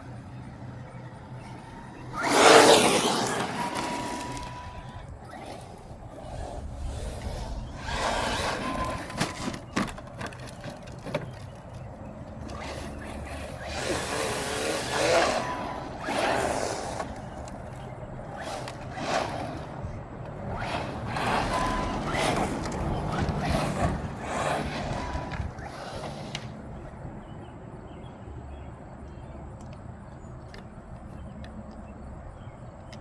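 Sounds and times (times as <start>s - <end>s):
rc truck motor revving: 0.0s - 27.0s.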